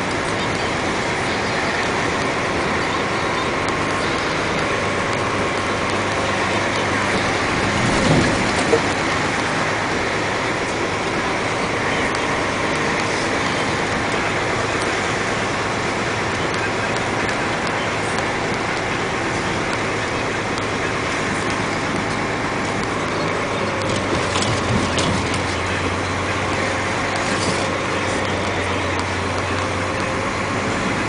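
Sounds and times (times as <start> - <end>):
truck engine running: 0.0 - 31.0
tyre and road noise: 0.0 - 31.0.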